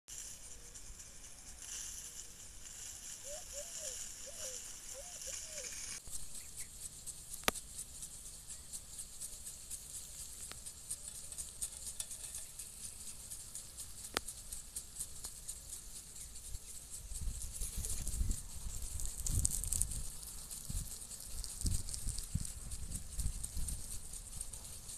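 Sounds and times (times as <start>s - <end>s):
soft hiss: 0.1s - 24.9s
sprinkler water droplets pattering: 0.1s - 24.9s.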